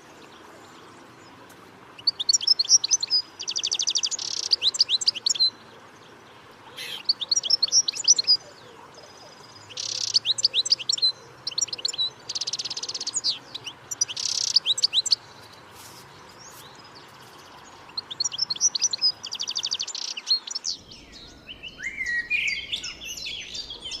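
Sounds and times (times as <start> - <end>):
songbird trilling: 2.0 - 5.6, 6.7 - 15.4, 16.4 - 24.0
bird chirping: 2.0 - 24.0.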